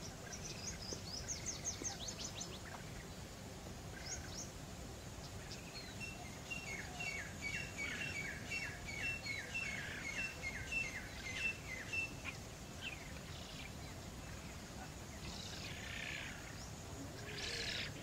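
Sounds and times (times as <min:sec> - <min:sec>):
small bird singing: 0:00.0 - 0:03.2, 0:03.9 - 0:18.0.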